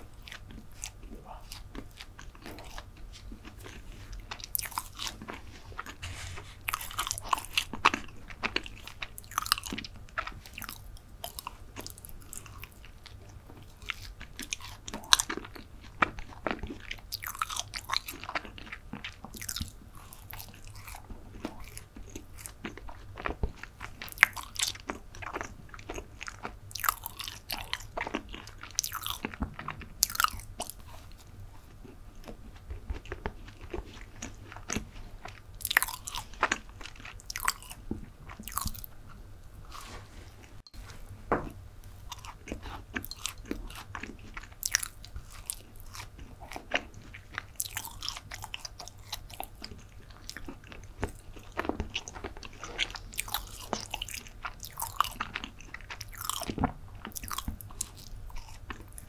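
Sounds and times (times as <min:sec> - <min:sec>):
chewing mouth clicks and smacks: 0:06.7 - 0:38.9, 0:42.1 - 0:59.0.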